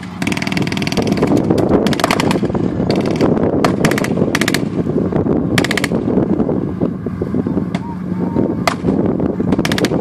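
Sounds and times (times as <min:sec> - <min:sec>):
armoured vehicle engine rumble: 0:00.0 - 0:10.0.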